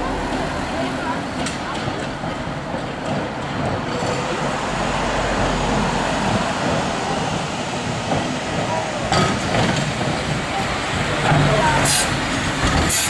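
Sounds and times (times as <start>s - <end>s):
tram wheels on rails: 0.0s - 13.0s.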